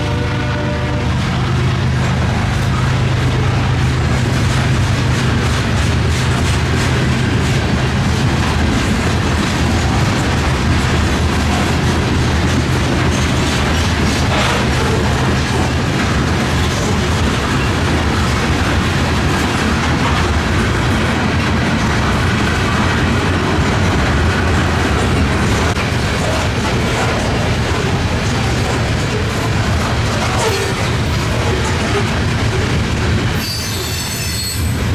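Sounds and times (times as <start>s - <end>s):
train wheels on rails clacking: 0.0s - 34.9s.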